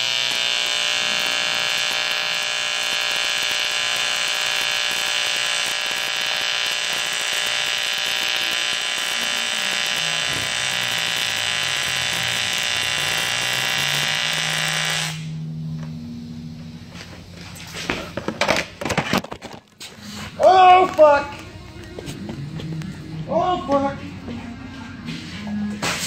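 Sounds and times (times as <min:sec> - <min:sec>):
welding arc crackling buzz: 0:00.0 - 0:23.9.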